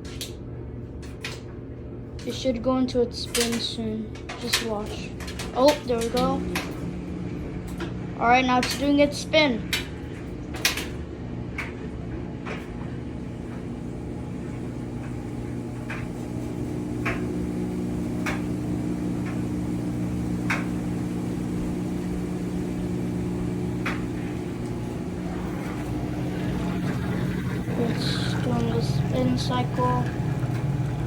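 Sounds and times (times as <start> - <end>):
washing machine spin cycle hum: 0.0 - 31.0.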